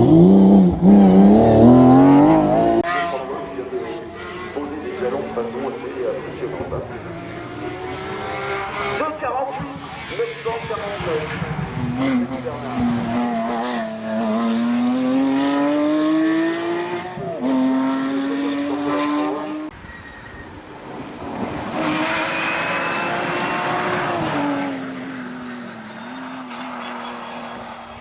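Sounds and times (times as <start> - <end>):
race car engine accelerating: 0.0 - 20.0, 20.8 - 28.0.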